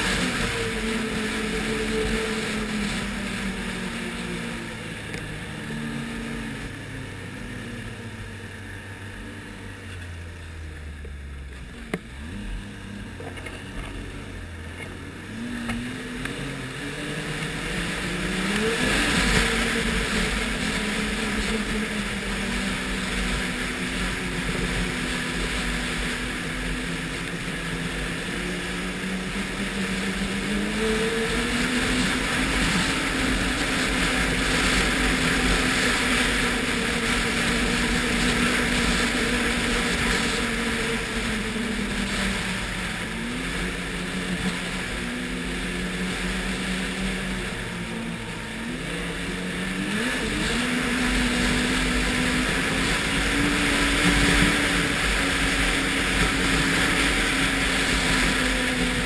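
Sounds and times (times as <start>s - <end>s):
wind rushing over microphone: 0.0s - 10.7s, 11.4s - 59.0s
snowmobile engine accelerating: 0.0s - 59.0s.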